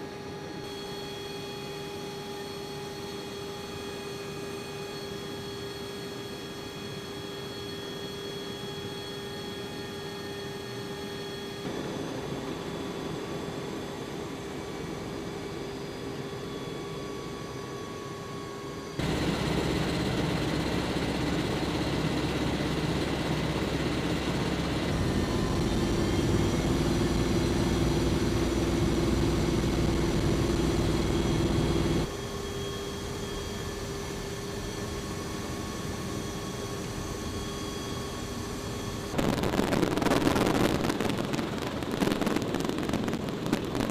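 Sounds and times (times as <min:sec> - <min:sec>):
aircraft engines droning: 0:00.0 - 0:43.9.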